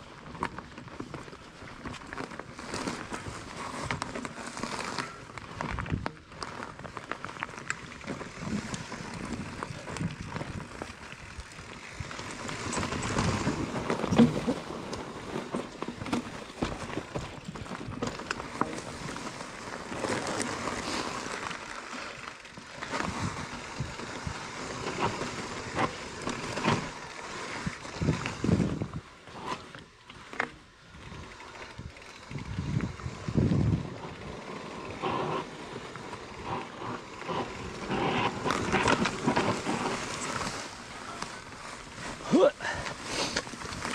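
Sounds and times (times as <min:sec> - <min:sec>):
bike tyres rolling over dirt: 0:00.0 - 0:43.9
bike knocks and rattles: 0:00.2 - 0:21.8, 0:22.7 - 0:42.2.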